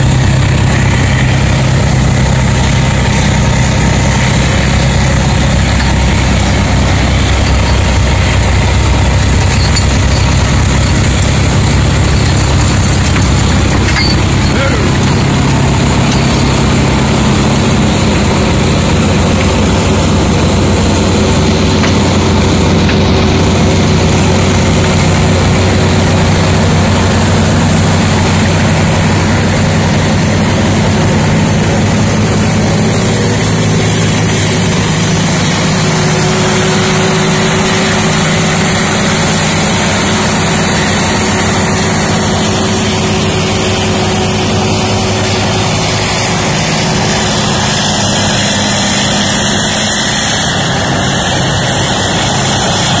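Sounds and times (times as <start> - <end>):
snow blower engine droning: 0.0 - 53.0.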